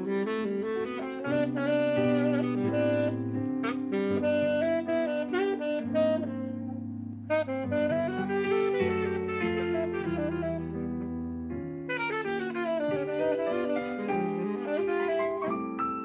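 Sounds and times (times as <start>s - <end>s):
electric keyboard accompaniment: 0.0s - 16.0s
saxophone jazz melody: 0.0s - 16.0s.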